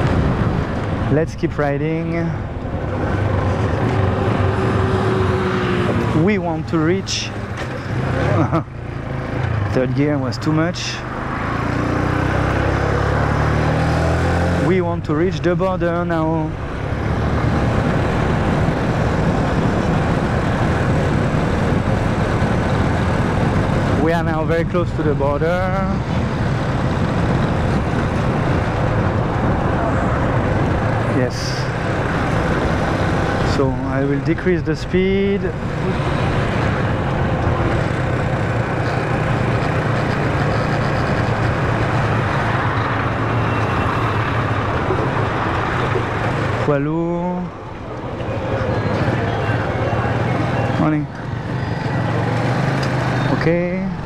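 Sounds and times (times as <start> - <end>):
motorcycle engine drone: 0.0 - 54.0
wind and road noise: 0.0 - 54.0.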